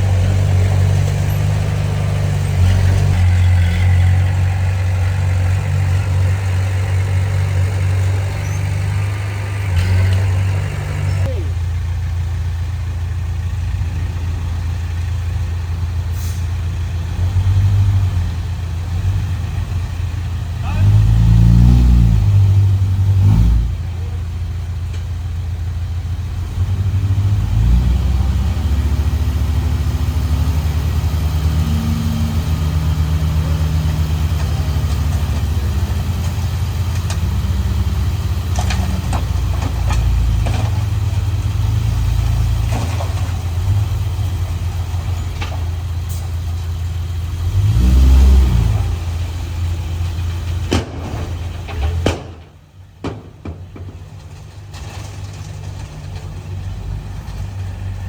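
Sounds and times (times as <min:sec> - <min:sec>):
heavy machinery diesel engine running: 0:00.0 - 0:17.4, 0:28.3 - 0:58.0.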